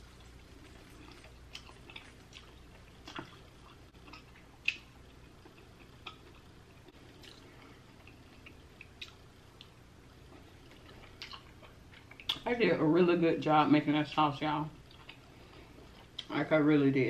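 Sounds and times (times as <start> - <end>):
faint chewing: 0.0 - 12.5, 14.8 - 16.4.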